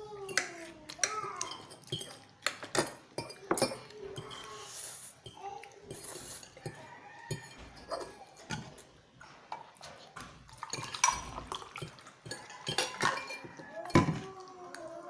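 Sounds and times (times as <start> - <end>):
forks clinking on plates: 0.3 - 8.9, 10.6 - 14.3.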